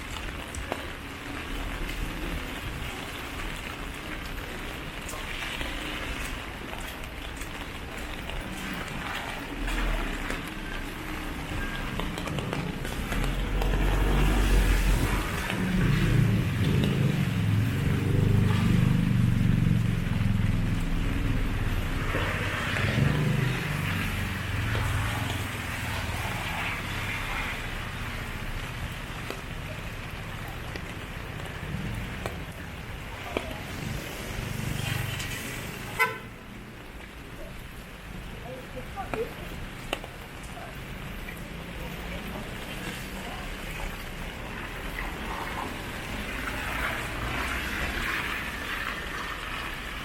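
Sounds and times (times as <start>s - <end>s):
steady rain: 0.0s - 50.0s
vehicle engines humming: 0.2s - 50.0s.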